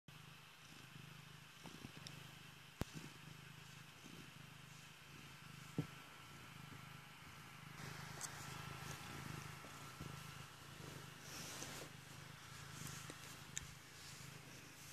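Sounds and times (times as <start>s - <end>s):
cat purring: 0.1s - 14.9s.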